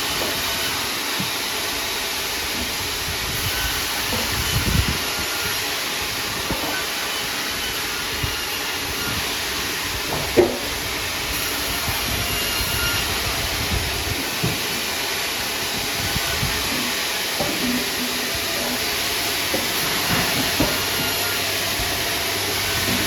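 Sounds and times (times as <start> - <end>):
sawmill machinery hissing: 0.0 - 23.0.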